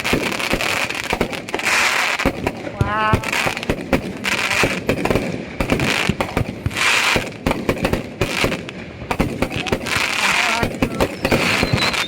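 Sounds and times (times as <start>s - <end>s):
fireworks bangs and pops: 0.0s - 12.0s
fireworks crackling: 0.0s - 12.0s.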